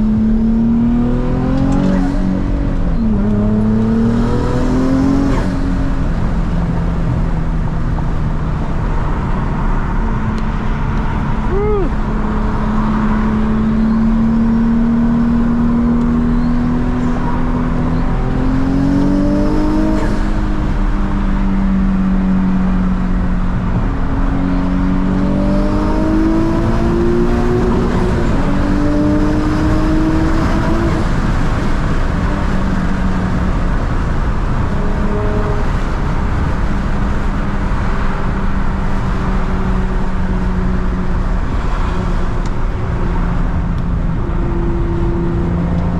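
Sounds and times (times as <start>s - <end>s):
car engine at light throttle: 0.0s - 45.9s
road noise: 0.0s - 45.9s.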